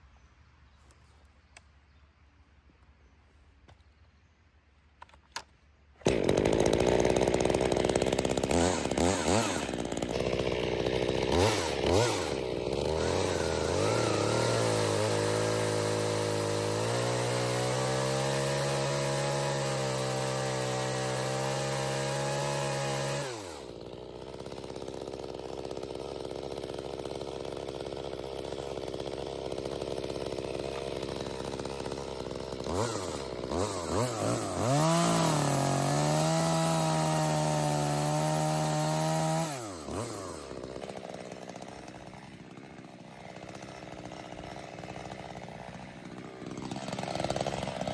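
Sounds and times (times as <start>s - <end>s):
chainsaw revving and idling: 5.4s - 47.9s.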